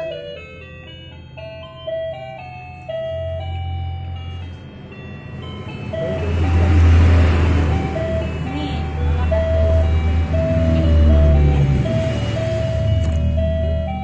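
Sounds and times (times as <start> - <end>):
electronic beeping jingle: 0.0 - 14.0.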